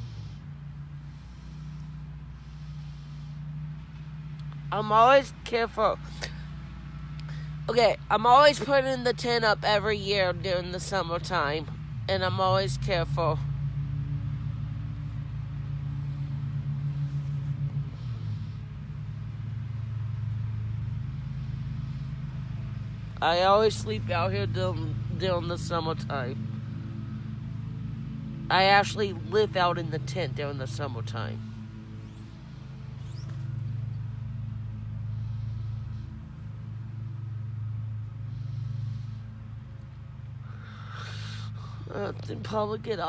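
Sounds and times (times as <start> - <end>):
engine droning: 0.0 - 43.0
low mechanical hum: 0.0 - 43.0.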